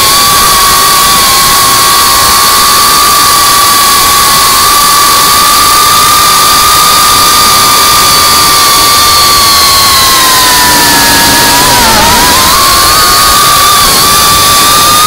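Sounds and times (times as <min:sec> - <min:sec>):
drone motors whining: 0:00.0 - 0:15.0
wind noise: 0:00.0 - 0:15.0.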